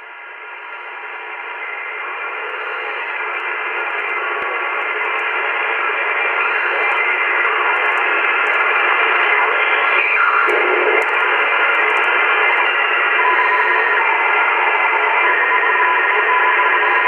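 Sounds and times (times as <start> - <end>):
radio receiver hissing band noise: 0.3 - 16.9.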